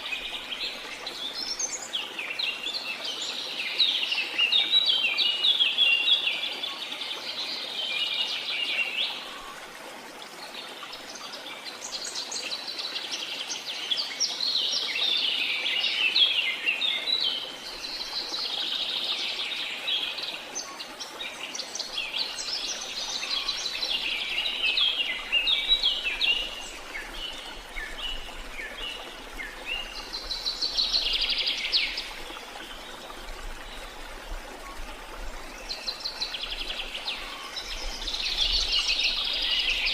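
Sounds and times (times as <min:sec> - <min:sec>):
faint rush of water: 0:00.0 - 0:39.9.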